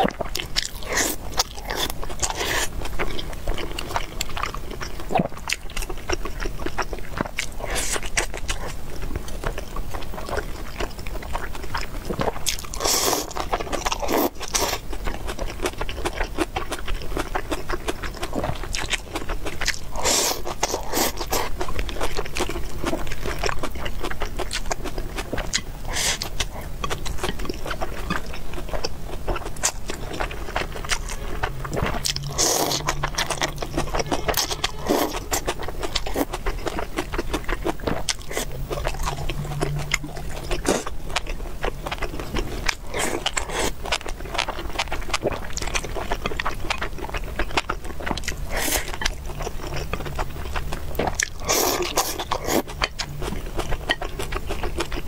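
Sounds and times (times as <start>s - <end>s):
close chewing with wet clicks: 0.0s - 55.0s.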